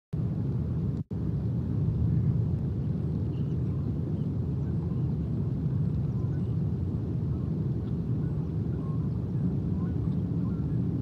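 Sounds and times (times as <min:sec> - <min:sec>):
low outdoor rumble: 0:00.2 - 0:11.0.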